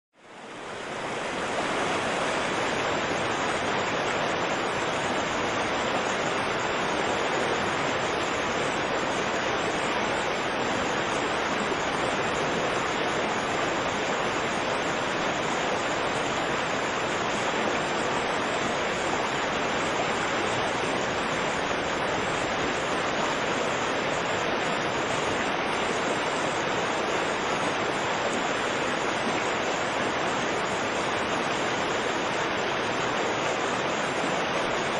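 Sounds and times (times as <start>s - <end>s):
river rushing: 0.2s - 34.9s.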